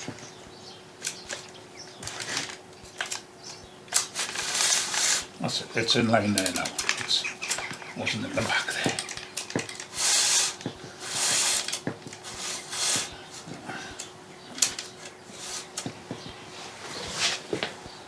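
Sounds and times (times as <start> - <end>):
parts rubbing and scraping: 0.0 - 0.4, 1.0 - 17.9.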